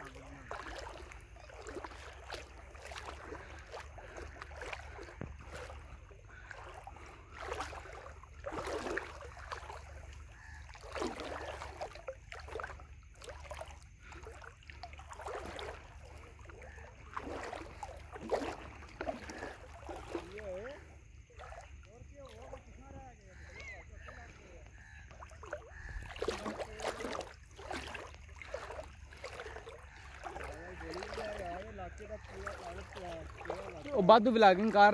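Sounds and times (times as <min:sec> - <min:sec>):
water lapping against boat hull: 0:00.0 - 0:34.9.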